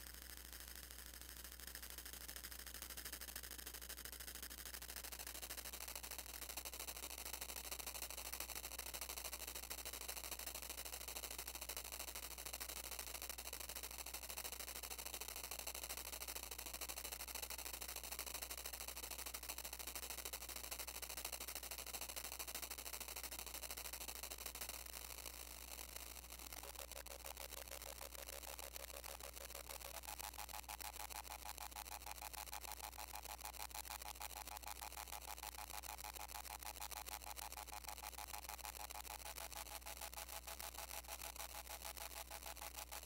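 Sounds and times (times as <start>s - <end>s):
crackling static-like synthesizer noise: 3.9s - 43.0s.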